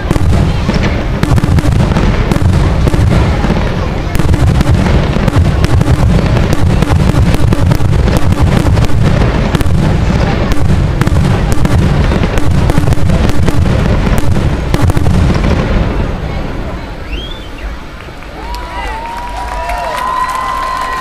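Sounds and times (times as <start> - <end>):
fireworks booms and cracks: 0.0 - 17.0.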